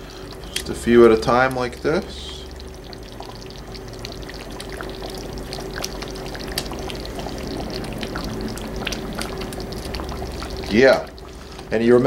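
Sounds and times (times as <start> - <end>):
faint steady hum: 0.0 - 12.0
stew bubbling in a pot: 0.0 - 12.0.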